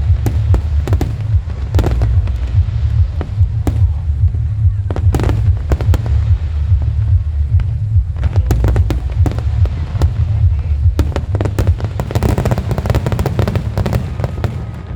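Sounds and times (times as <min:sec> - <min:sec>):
fireworks bangs and crackles: 0:00.0 - 0:14.9
heavy low rumble: 0:00.0 - 0:14.9.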